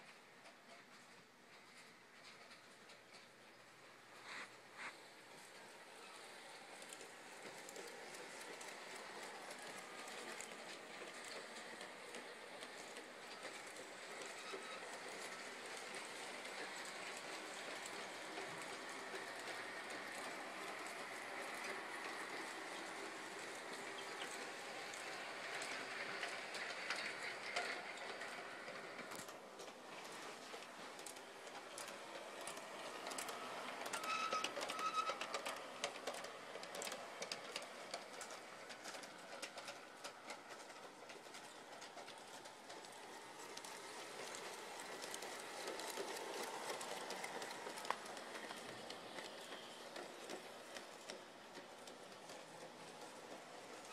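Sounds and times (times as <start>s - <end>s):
model train wheels rattling on rails: 0.0s - 53.9s.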